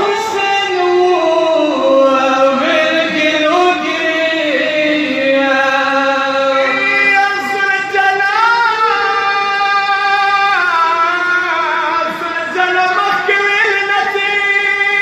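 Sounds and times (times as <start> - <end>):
men chanting into microphone: 0.0 - 15.0.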